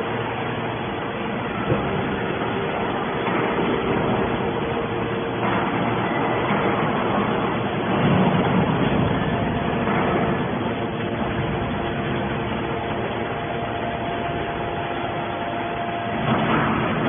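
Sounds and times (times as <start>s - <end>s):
baler machine droning: 0.0s - 17.0s.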